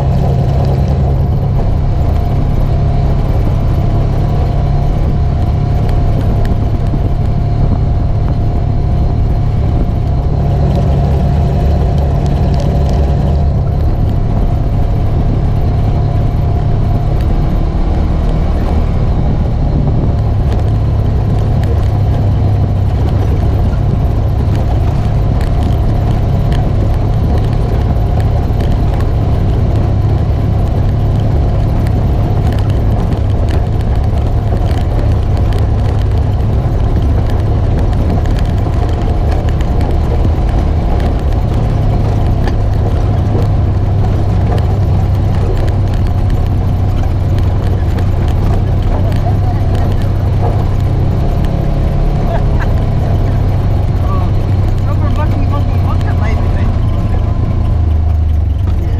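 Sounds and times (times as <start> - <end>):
side-by-side engine running: 0.0 - 58.9.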